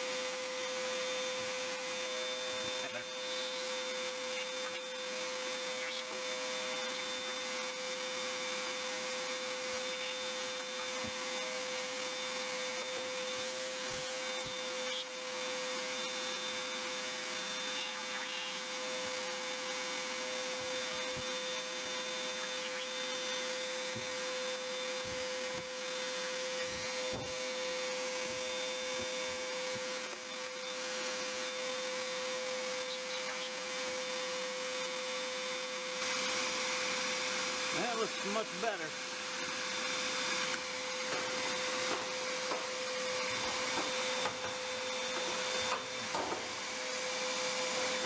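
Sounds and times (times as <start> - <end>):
shop vac whining: 0.0 - 48.0.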